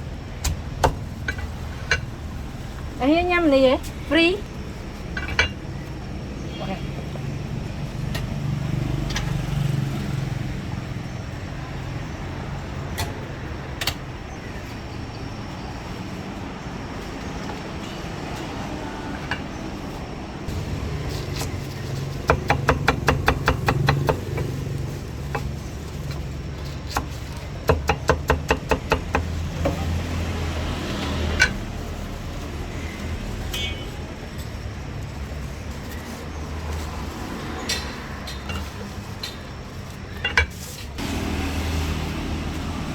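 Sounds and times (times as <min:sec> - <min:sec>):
street traffic hum: 0:00.0 - 0:42.9.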